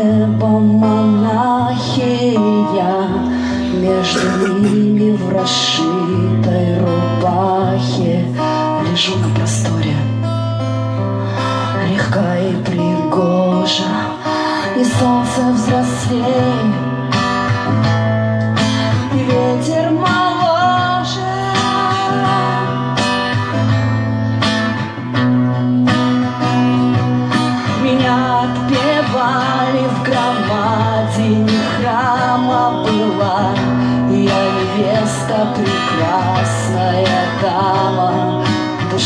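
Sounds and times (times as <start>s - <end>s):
woman singing slow song: 0.0s - 18.0s, 18.6s - 24.0s, 25.5s - 39.0s
acoustic guitar strumming: 0.0s - 39.0s.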